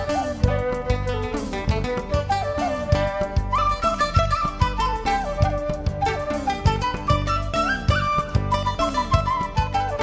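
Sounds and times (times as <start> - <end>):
music with sliding melody: 0.0 - 10.0.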